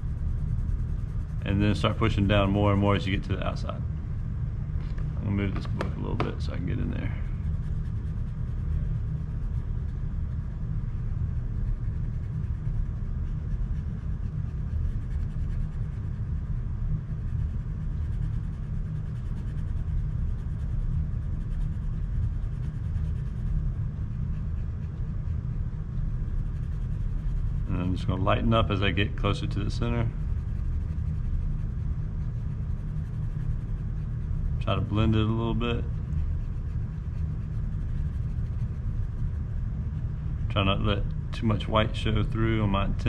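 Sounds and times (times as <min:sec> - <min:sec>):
pencil scratching on paper: 0:00.0 - 0:03.0, 0:05.7 - 0:40.0
low background rumble: 0:00.0 - 0:43.0.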